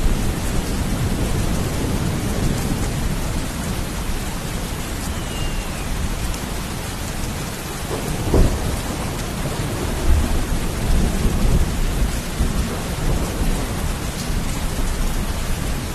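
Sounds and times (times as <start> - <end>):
thunder crack and rumbles: 0.0 - 5.0, 6.0 - 15.9
heavy rain: 0.0 - 15.9.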